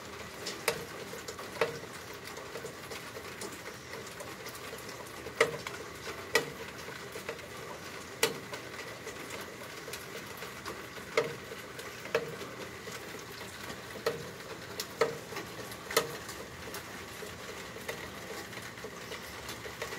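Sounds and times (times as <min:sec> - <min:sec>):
rain pattering on a patio: 0:00.0 - 0:19.9.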